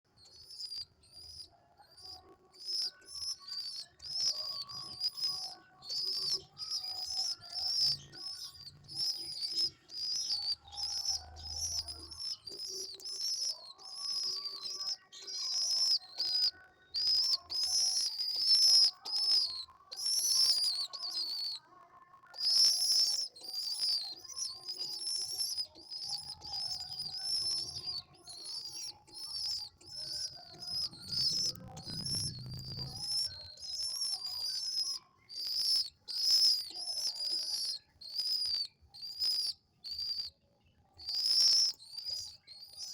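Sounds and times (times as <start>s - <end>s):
pigeon squabs peeping: 0.3s - 21.6s, 22.3s - 40.3s, 41.0s - 42.9s.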